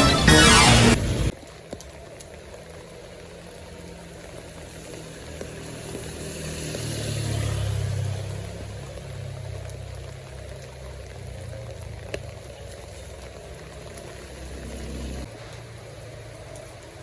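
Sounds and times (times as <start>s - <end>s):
steady rain-like hiss: 1.0s - 17.0s.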